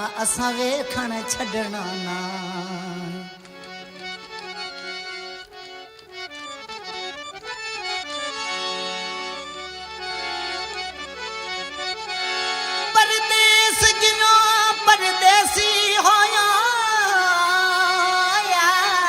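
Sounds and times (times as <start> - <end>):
harmonium melody over drone: 0.0 - 19.0.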